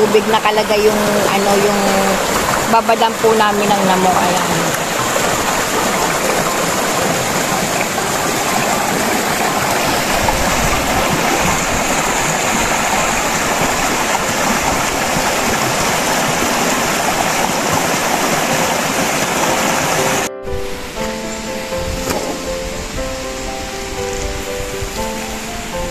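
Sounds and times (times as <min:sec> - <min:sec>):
stream rushing over boulders: 0:00.0 - 0:25.9.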